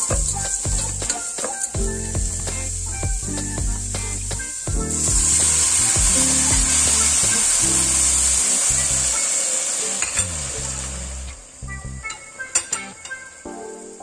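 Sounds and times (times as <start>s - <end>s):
water sizzling in hot pan: 0.0s - 11.6s
background music: 0.0s - 14.0s.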